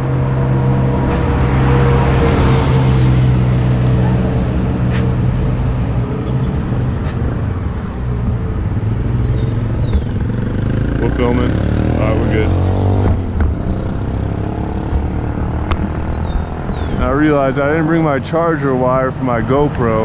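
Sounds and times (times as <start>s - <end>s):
road traffic: 0.0s - 20.0s
vehicle engine humming: 0.0s - 20.0s.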